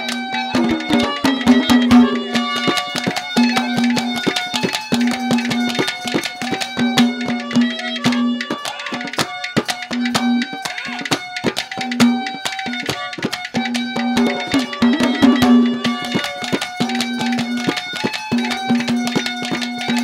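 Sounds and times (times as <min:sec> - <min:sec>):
hand drum playing quick beat: 0:00.1 - 0:20.0.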